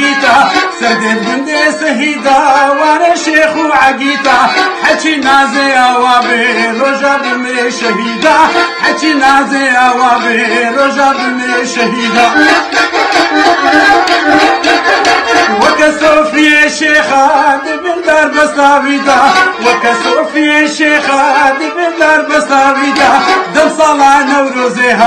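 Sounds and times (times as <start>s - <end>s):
bowed fiddle: 0.0s - 25.0s
man singing folk song: 0.0s - 25.0s.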